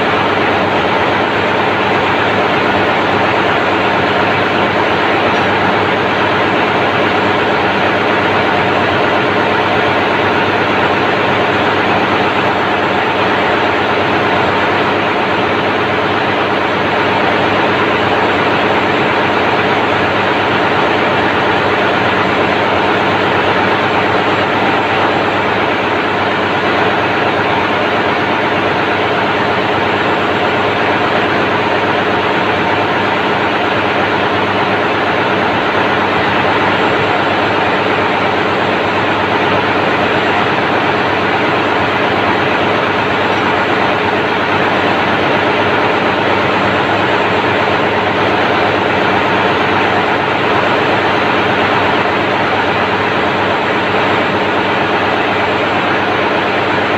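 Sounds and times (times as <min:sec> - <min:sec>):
diesel engine running steadily: 0:00.0 - 0:56.9.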